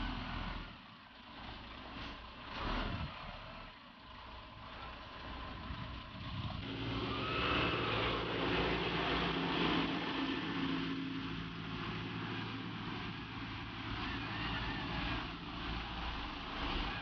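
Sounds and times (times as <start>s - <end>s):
truck engine hum: 0.0s - 17.0s.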